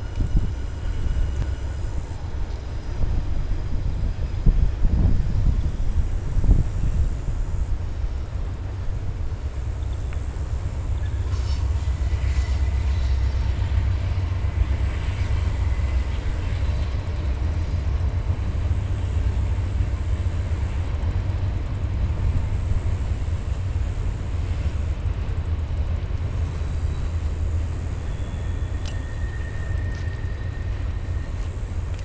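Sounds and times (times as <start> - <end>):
faint rail noise: 0.0 - 32.0
locomotive engine rumble: 0.0 - 32.0.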